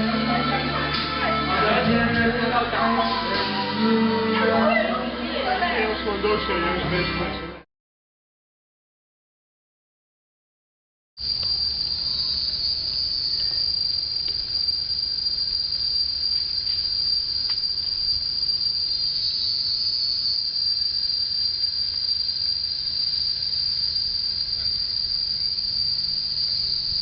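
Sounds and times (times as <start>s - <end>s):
shrill insect chorus: 0.0s - 7.4s, 11.2s - 27.0s.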